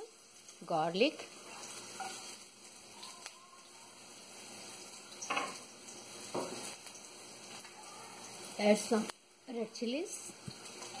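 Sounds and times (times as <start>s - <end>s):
garlic sizzling in oil: 0.0s - 11.0s.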